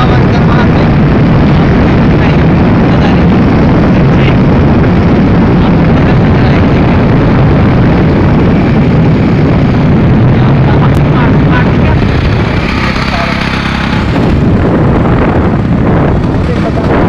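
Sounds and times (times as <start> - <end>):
road noise from moving vehicle: 0.0 - 17.0
wind rushing: 0.0 - 17.0.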